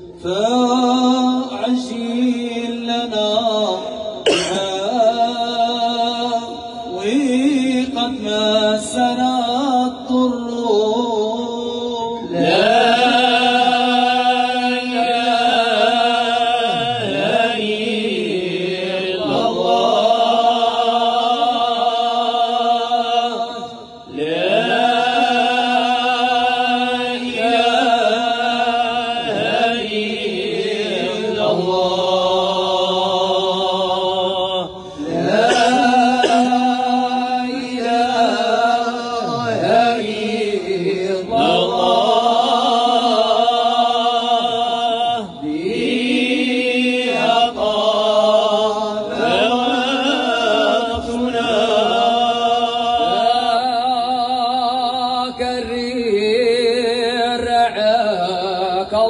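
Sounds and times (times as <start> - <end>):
men chanting: 0.2 - 59.0.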